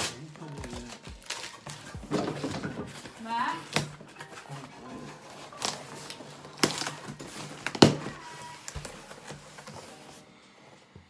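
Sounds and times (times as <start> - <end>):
cardboard cracking: 0.0 - 10.2
cardboard flaps rustling: 0.0 - 10.2.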